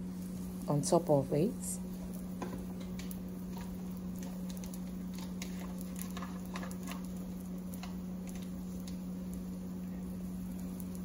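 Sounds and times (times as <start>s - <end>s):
food crackling in a pan: 0.0s - 11.0s
steady low hum: 0.0s - 11.0s.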